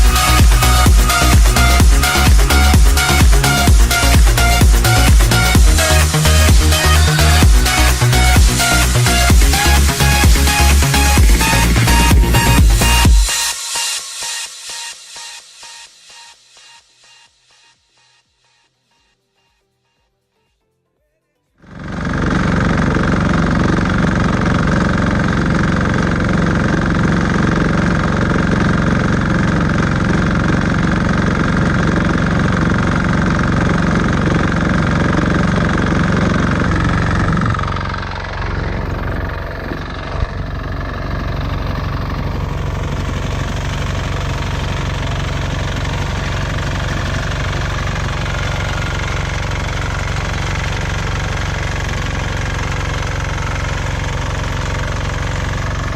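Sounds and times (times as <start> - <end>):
walk-behind tractor engine running: 0.0 - 13.4, 21.6 - 55.9
vibrating potato digger: 0.0 - 13.5, 21.6 - 55.9.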